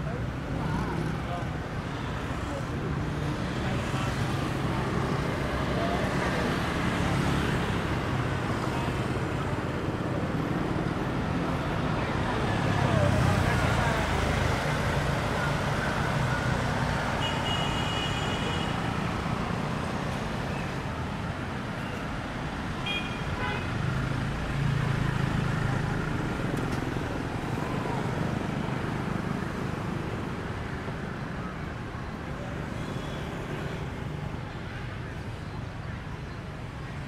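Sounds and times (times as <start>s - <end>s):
scooters and cars passing: 0.0s - 37.0s.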